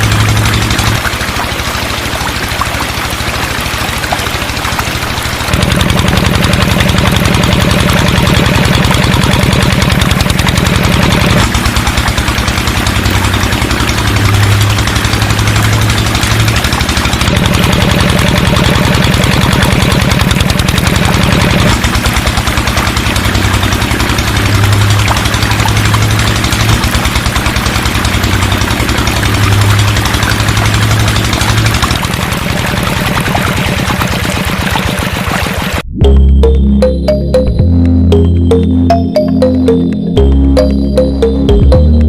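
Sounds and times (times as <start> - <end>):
small motor pulsing: 0.0 - 35.9.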